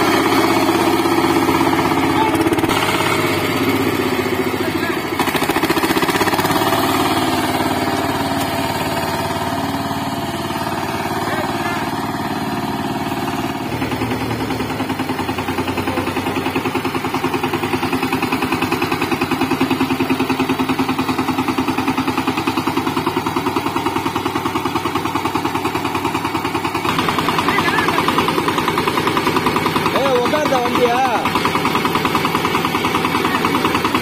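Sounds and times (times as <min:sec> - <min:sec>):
diesel tiller engine pulsing: 0:00.0 - 0:34.0.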